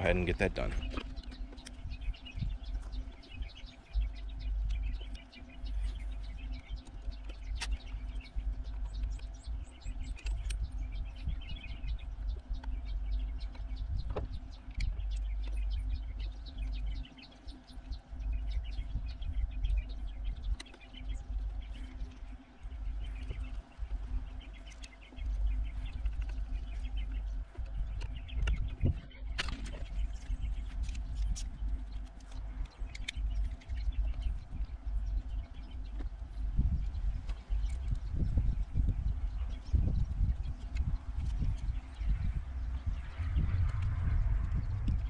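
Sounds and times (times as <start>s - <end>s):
small birds chirping: 0.0s - 45.0s
wind rumble on microphone: 0.0s - 45.0s.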